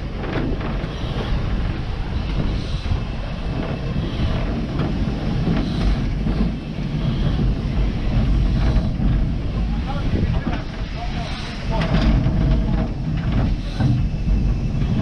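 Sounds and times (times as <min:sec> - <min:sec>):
locomotive rumbling on track: 0:00.0 - 0:15.0.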